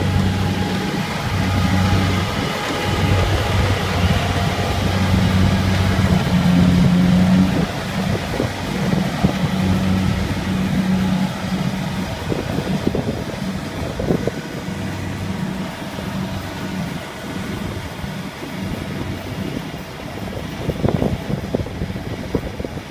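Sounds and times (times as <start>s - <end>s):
machinery rattles: 0.0s - 22.7s
combine harvester running: 0.0s - 22.9s.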